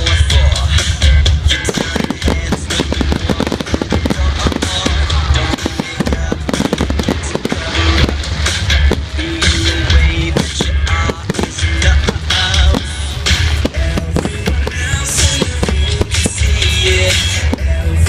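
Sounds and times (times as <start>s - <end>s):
fireworks bangs and crackles: 0.0s - 18.0s
music with steady bass: 0.0s - 18.0s.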